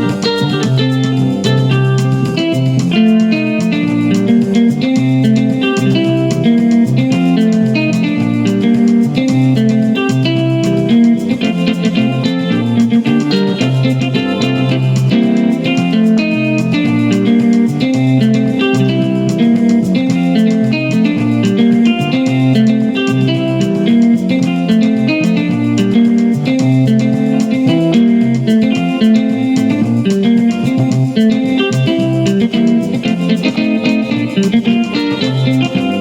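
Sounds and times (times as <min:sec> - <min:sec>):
keyboard bass line: 0:00.0 - 0:36.0
plucked guitar voice notes: 0:00.0 - 0:36.0.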